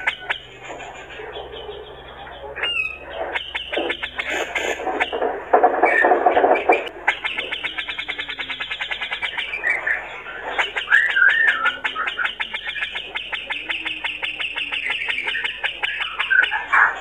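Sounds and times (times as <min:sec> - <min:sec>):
bird singing: 0:00.0 - 0:17.0.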